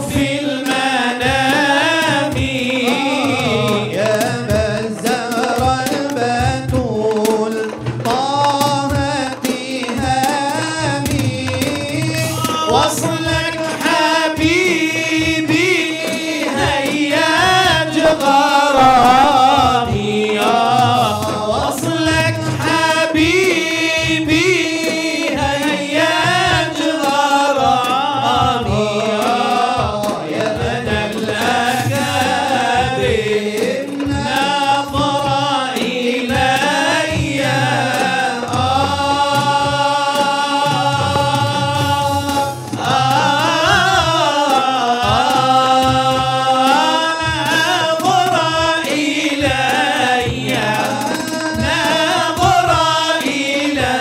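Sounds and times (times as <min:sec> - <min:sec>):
frame drums beating: 0:00.0 - 0:54.0
man singing: 0:00.0 - 0:54.0.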